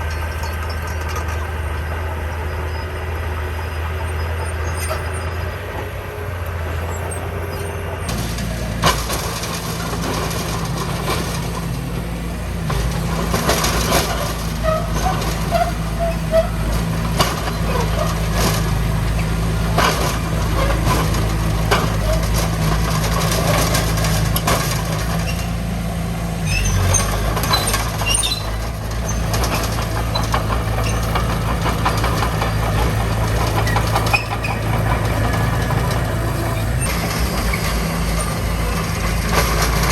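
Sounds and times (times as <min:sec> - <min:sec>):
metallic clanks and squeaks: 0:00.0 - 0:06.0, 0:06.7 - 0:39.9
diesel engine running under load: 0:00.0 - 0:39.9.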